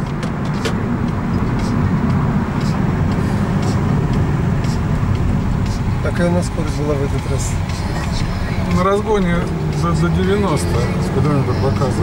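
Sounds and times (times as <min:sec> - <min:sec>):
car interior driving rumble: 0:00.0 - 0:12.0.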